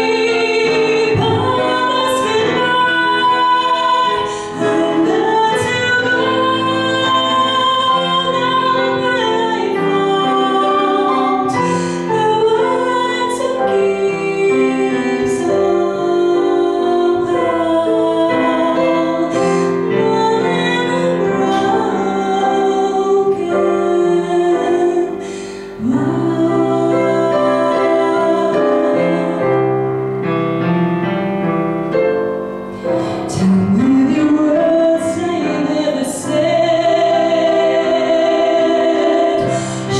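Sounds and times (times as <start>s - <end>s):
woman singing into microphone: 0.0s - 29.6s, 32.9s - 39.9s
digital piano accompaniment: 0.0s - 39.9s.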